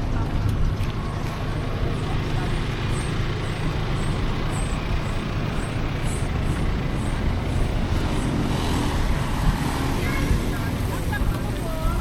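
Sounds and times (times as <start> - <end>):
vehicle rumble and hiss: 0.0 - 12.0.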